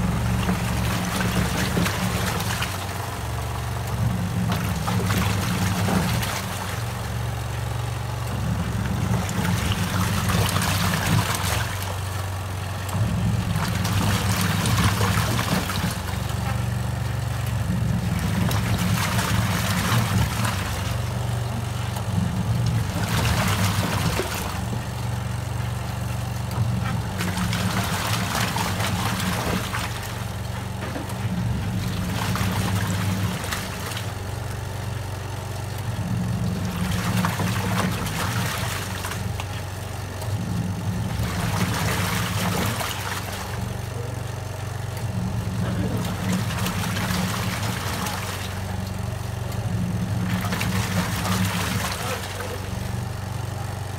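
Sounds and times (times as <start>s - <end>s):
washing machine motor hum: 0.0s - 53.9s
water sloshing: 0.0s - 53.9s.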